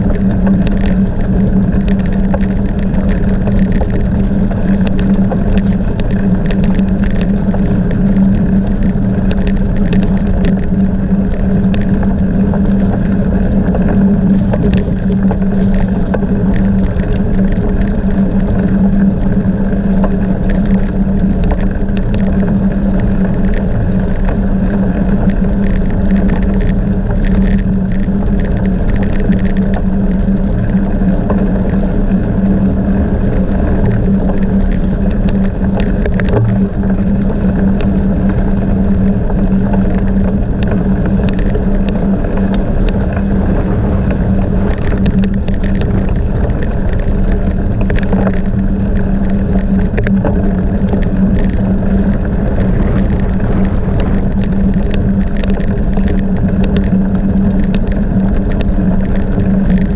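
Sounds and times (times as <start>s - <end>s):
clicks and rattles: 0.0s - 31.9s, 32.5s - 59.9s
bicycle tyres rolling on road: 0.0s - 59.9s
wind on microphone: 0.0s - 59.9s.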